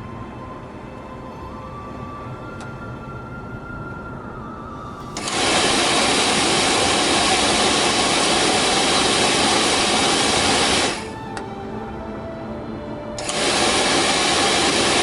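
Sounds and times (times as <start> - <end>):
heater blower fan rushing air: 0.0 - 15.0.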